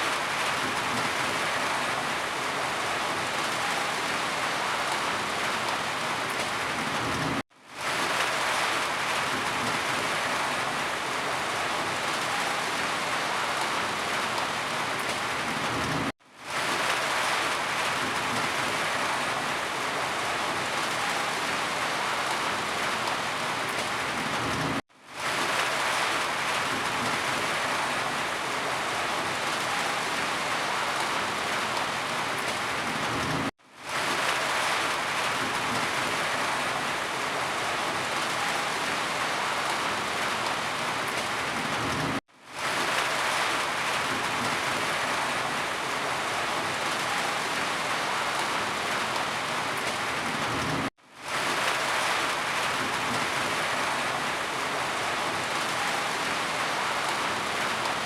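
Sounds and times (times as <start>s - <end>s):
dense rain hiss: 0.0s - 58.0s.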